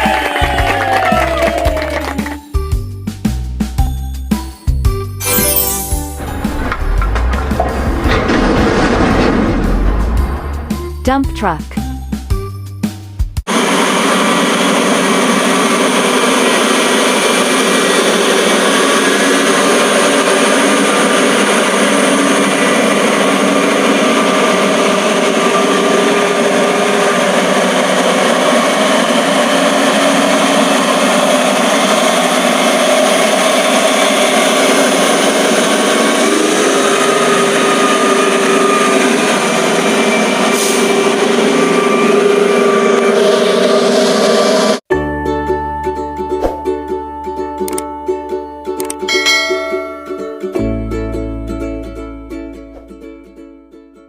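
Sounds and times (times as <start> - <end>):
dump truck engine drone: 0.1 - 44.9.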